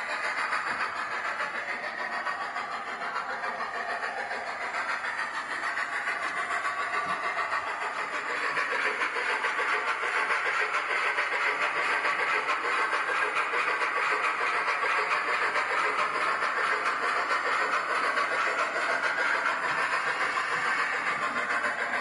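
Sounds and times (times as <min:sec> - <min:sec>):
mechanical running noise: 0:00.0 - 0:22.0
model steam locomotive chuffing: 0:00.0 - 0:22.0.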